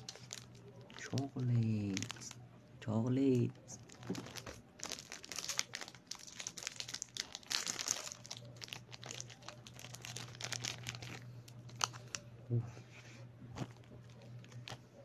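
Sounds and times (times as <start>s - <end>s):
plastic wrapper crinkling and tearing: 0.0s - 2.4s, 3.7s - 12.3s, 13.6s - 15.0s.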